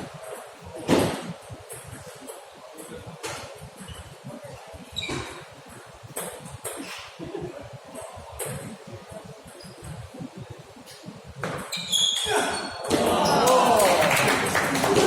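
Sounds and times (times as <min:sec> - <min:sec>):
low background murmur: 0:00.0 - 0:15.0.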